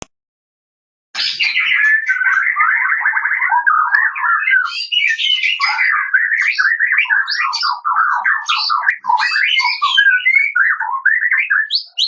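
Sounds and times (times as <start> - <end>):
bird singing whistled phrases: 1.2 - 12.0.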